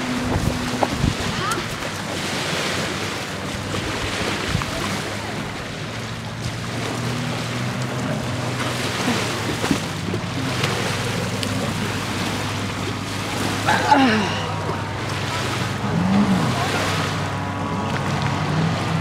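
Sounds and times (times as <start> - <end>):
jet ski engine idling: 0.0 - 19.0
wind and water hiss: 0.0 - 19.0.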